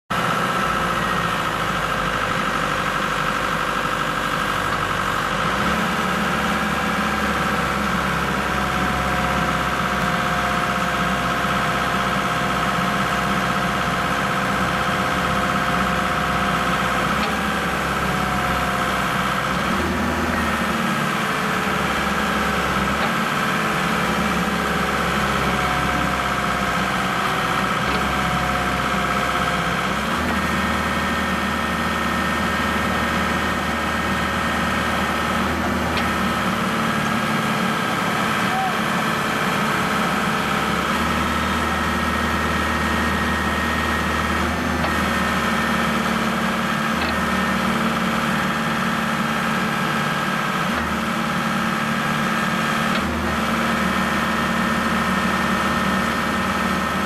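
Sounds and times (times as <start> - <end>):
forklift running with whine: 0.1 - 57.0
hydraulic hum: 0.6 - 51.1.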